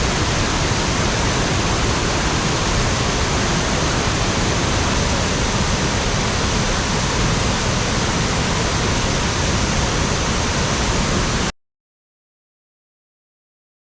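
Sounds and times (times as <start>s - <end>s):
waterfall rushing: 0.0s - 11.5s.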